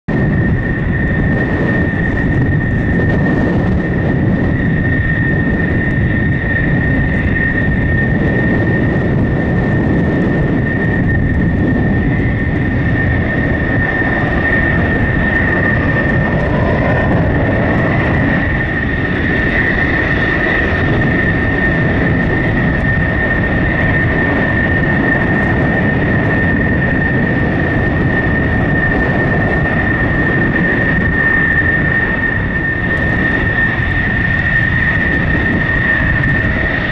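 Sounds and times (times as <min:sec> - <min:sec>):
jet engine rumble and whine: 0:00.0 - 0:36.9.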